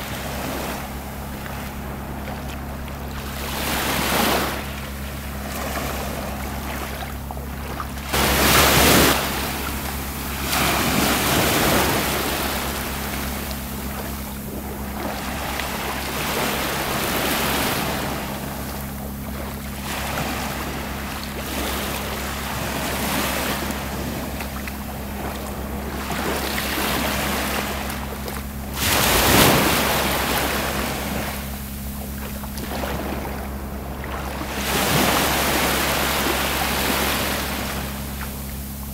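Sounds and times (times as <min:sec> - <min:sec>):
small waves breaking: 0:00.0 - 0:38.9
steady low hum: 0:00.0 - 0:38.9.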